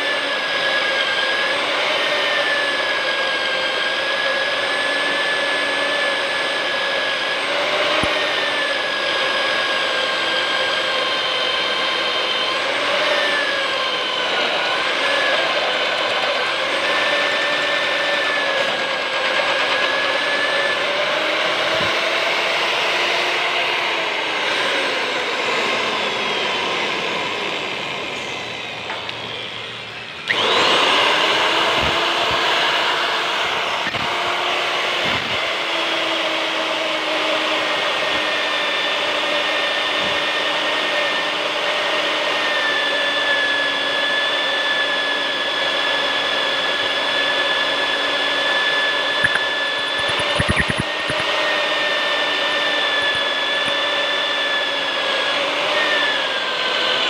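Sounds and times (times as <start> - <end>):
drill motor running: 0.0 - 57.0.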